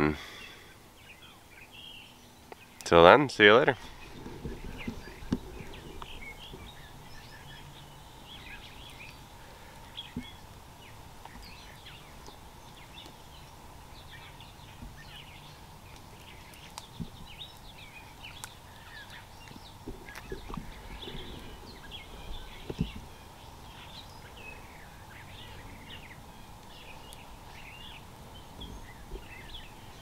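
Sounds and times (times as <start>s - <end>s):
birds chirping and singing: 0.0s - 30.0s
low outdoor background noise: 0.0s - 30.0s.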